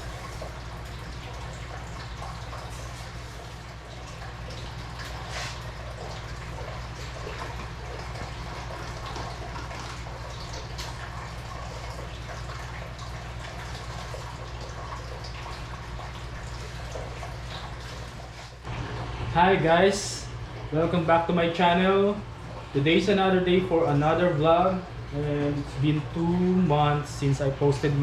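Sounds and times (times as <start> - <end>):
low constant hum: 0.0 - 28.0
small drips: 0.0 - 28.0
trickling water: 0.0 - 28.0.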